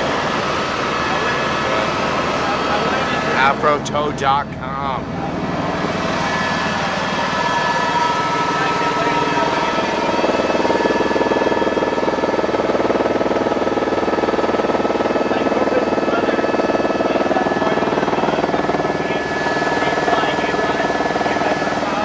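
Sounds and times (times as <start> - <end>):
helicopter drone from cabin: 0.0 - 22.0
high whining tones: 0.0 - 22.0.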